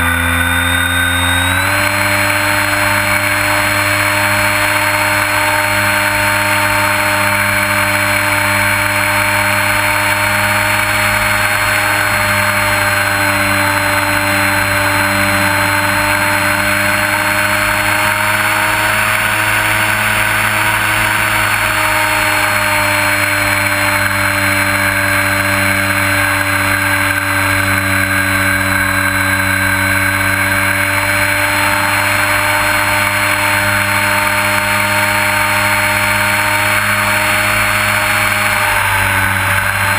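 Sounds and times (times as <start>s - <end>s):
model airplane motor running: 0.0s - 39.9s.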